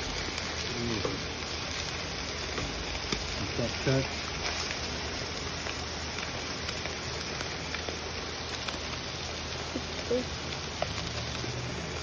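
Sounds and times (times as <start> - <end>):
fish sizzling in a skillet: 0.0 - 12.0.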